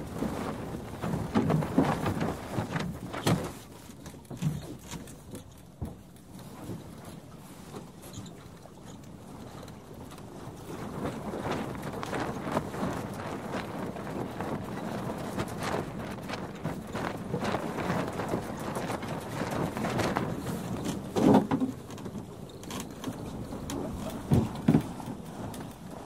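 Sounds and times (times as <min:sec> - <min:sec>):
small knocks from boat: 0:00.0 - 0:26.0
wind: 0:00.0 - 0:26.0.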